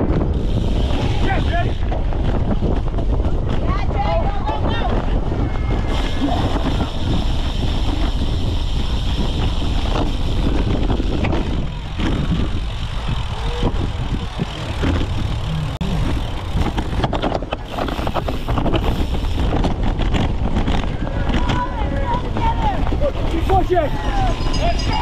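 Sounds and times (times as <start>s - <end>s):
bike rattles and knocks: 0.0s - 25.0s
rumble over rough ground: 0.0s - 25.0s
wind buffeting: 0.0s - 25.0s.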